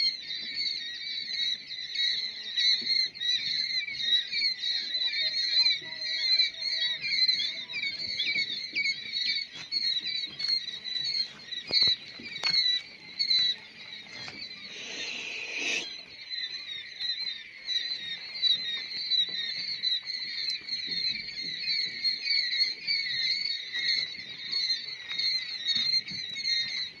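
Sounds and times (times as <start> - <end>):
quail chicks peeping: 0.0 - 27.0.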